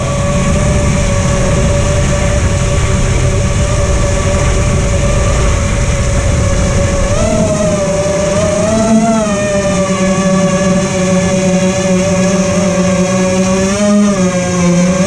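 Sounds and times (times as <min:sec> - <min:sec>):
dense low rumble: 0:00.0 - 0:13.2
quadcopter motors whining: 0:00.0 - 0:15.0.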